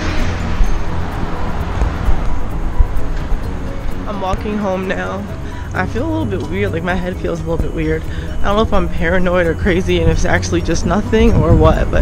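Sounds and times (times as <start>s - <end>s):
background music: 0.0s - 12.0s
low rumble on microphone: 0.0s - 12.0s
street traffic noise: 0.0s - 12.0s.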